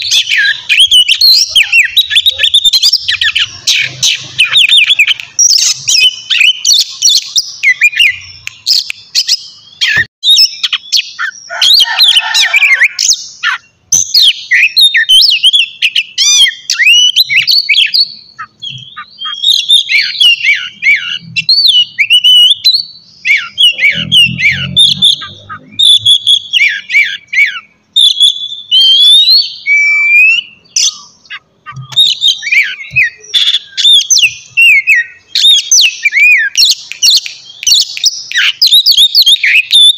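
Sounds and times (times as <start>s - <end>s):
bird singing whistles and trills: 0.0s - 39.9s
low rough bird noise: 0.0s - 39.9s.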